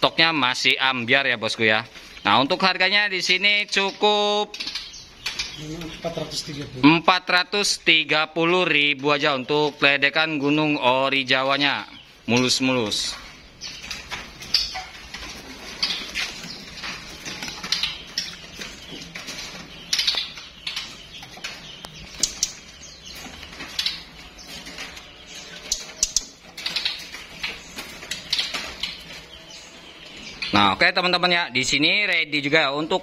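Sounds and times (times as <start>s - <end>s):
birds fluttering in cages: 0.0s - 33.0s.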